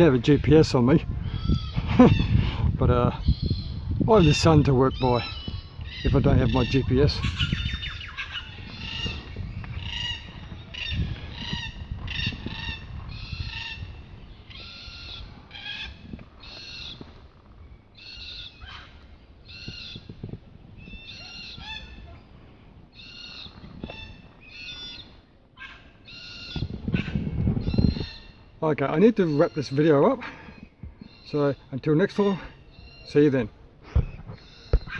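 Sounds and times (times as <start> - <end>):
birds calling: 0.0 - 34.9.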